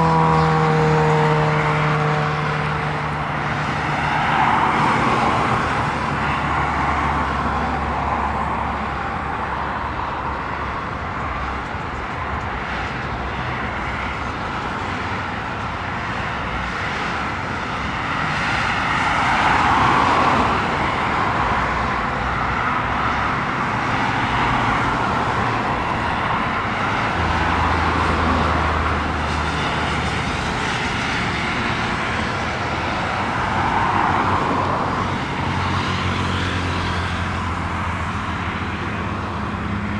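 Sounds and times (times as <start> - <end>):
jet engines rushing: 0.0 - 39.9
road traffic: 0.0 - 39.9.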